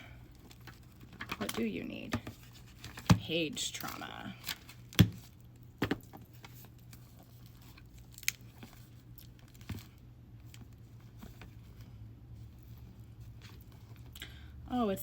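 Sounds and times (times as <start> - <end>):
low steady hum: 0.0 - 15.0
book pages rustling: 0.4 - 14.1.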